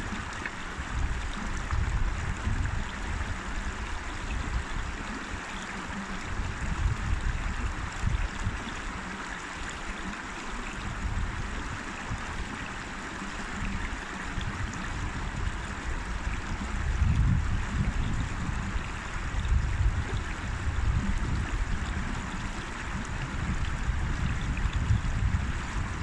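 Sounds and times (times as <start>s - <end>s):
river flowing over stones: 0.0s - 26.0s.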